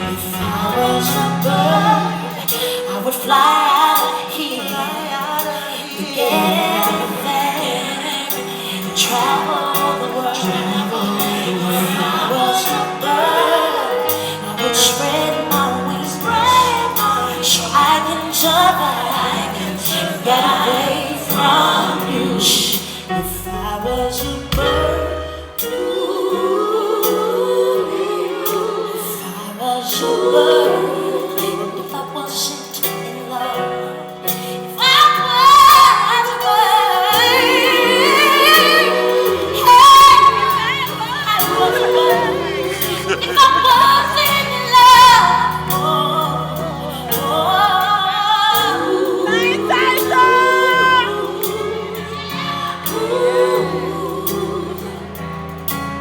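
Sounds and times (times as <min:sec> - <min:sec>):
voices singing with vibrato: 0:00.0 - 0:55.5
live band: 0:00.0 - 0:56.0.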